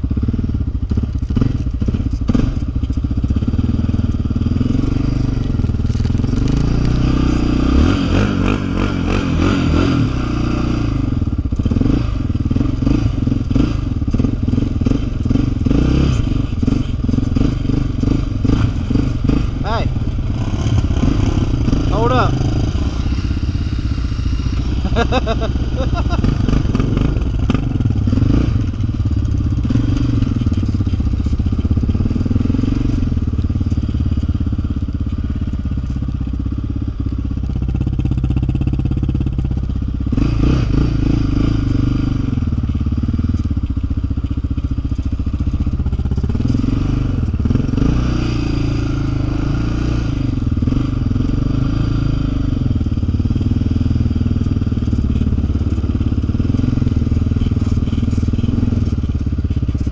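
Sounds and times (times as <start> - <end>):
quad engine revving: 0.0 - 2.7, 3.3 - 36.8, 37.4 - 43.8, 44.6 - 59.9.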